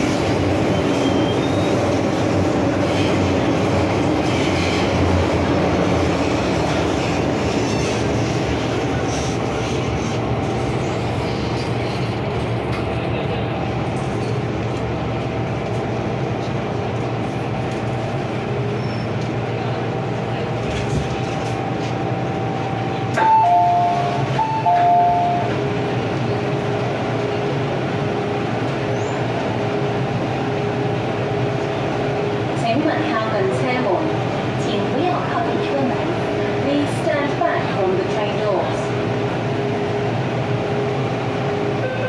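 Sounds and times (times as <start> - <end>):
train rumble and whine: 0.0 - 42.0.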